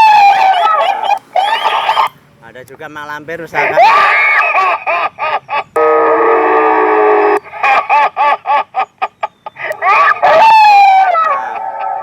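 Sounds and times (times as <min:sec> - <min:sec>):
horn loudspeaker witch cackle: 0:00.0 - 0:02.1, 0:03.6 - 0:12.0.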